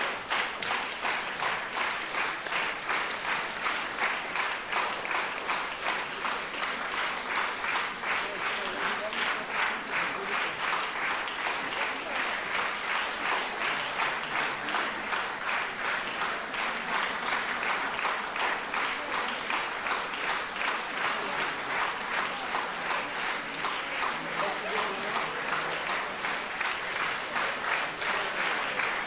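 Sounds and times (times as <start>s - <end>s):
audience clapping in time: 0.0s - 29.0s.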